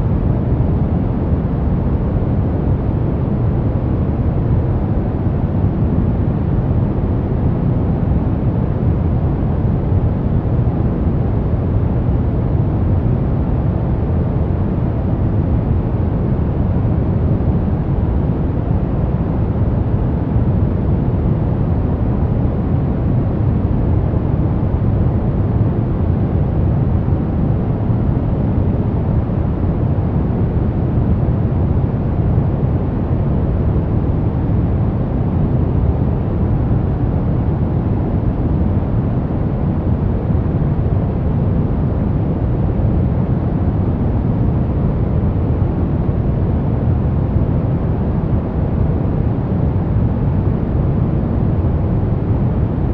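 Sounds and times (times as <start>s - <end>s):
dark white noise rush: 0.0s - 52.9s.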